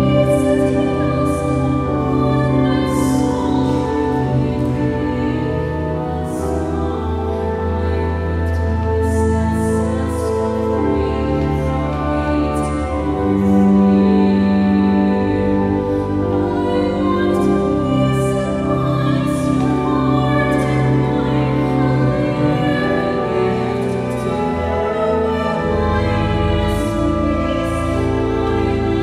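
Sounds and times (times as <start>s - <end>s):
cello: 0.0s - 29.0s
pipe organ: 0.0s - 29.0s
woman singing sacred song: 0.0s - 29.0s.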